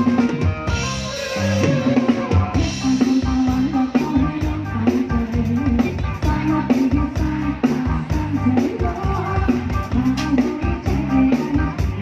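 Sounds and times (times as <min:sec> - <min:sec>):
bending melodic line: 0:00.0 - 0:12.0
drum kit beat: 0:00.0 - 0:12.0
guitar: 0:00.0 - 0:12.0.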